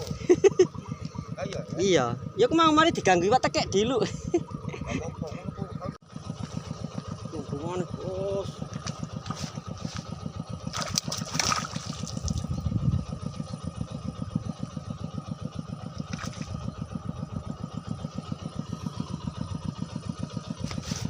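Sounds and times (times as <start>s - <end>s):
small engine chugging: 0.0s - 21.0s.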